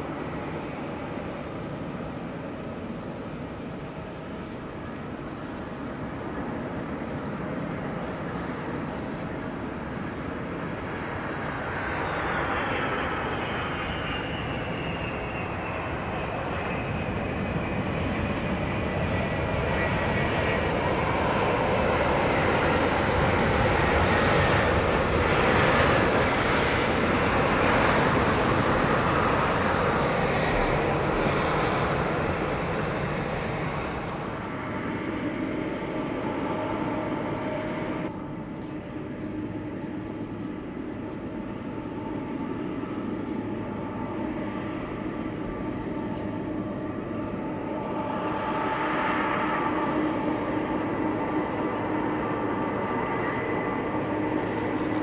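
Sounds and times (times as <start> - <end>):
jet engines drone: 0.0 - 55.0.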